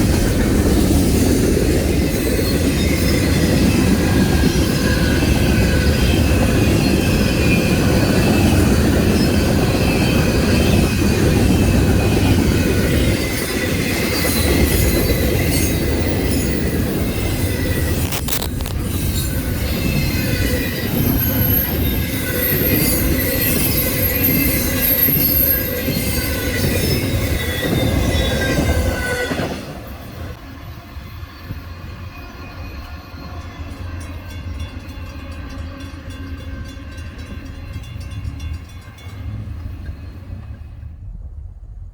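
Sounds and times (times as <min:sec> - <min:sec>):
train wheels squealing: 0:00.0 - 0:41.1
freight train rumbling: 0:00.0 - 0:41.9.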